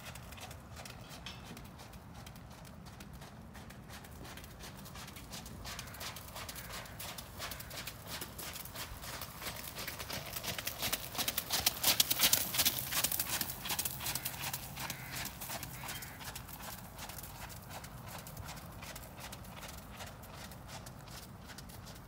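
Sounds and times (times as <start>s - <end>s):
hoofbeats on wet gravel: 0.0s - 22.0s.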